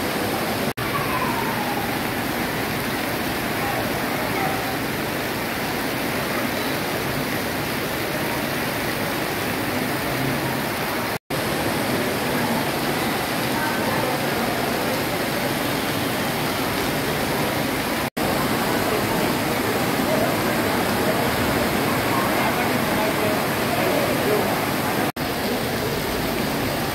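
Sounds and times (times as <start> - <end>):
heavy rain on pavement: 0.0 - 26.9.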